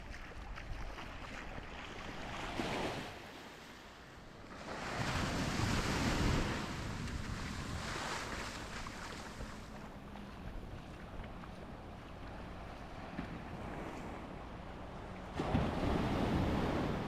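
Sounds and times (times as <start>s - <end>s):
waves washing up a sandy beach: 0.0s - 17.0s.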